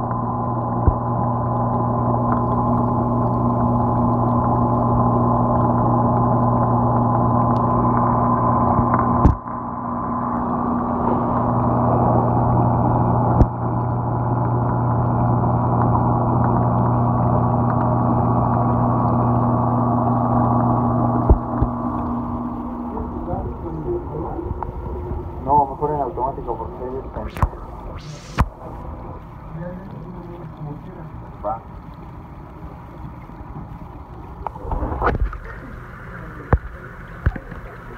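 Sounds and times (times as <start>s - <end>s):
aquarium pumps humming underwater: 0.0s - 37.9s.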